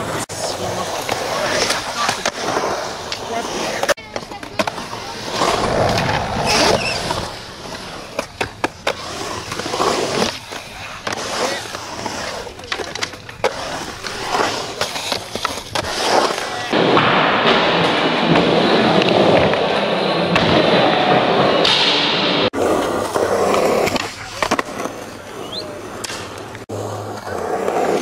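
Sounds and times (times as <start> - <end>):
skateboard wheels rolling: 0.0 - 28.0.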